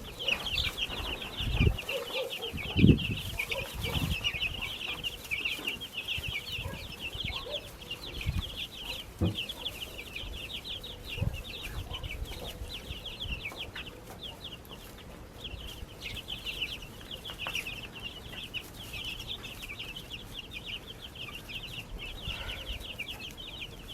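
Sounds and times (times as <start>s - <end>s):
baby chicks peeping: 0.0s - 23.9s.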